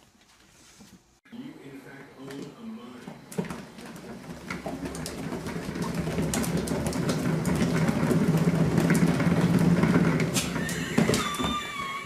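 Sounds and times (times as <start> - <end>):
cat exercise wheel rumbling: 2.2 - 12.0.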